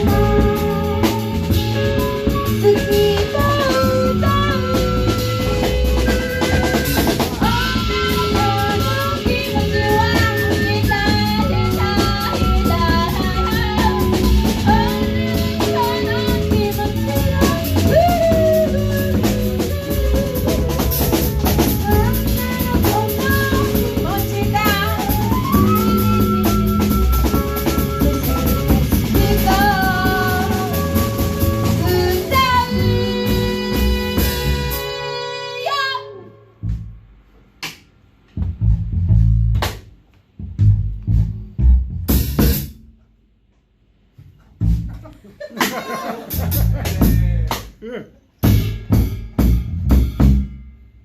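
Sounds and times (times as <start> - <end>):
drum kit beat: 0.0 - 35.2, 36.6 - 50.9
live band playing: 0.0 - 37.0, 40.4 - 42.8, 44.6 - 47.7, 48.3 - 50.5.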